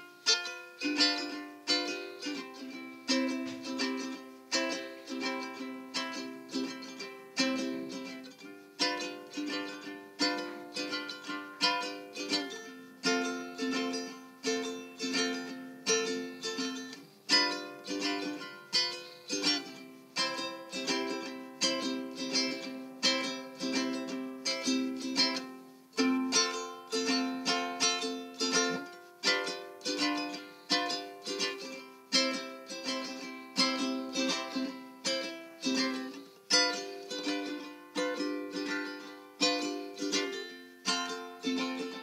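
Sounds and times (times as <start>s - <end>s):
plucked string instrument: 0.0s - 42.0s.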